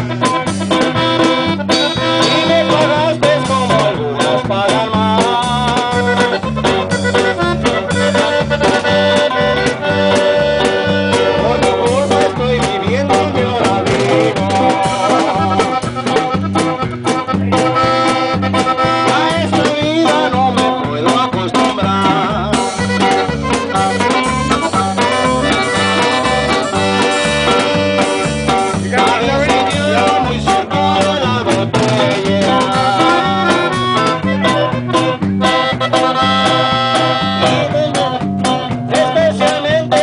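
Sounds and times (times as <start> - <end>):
button accordion melody: 0.0 - 40.0
drums: 0.0 - 40.0
electric bass: 0.0 - 40.0
guitar strumming: 0.0 - 40.0.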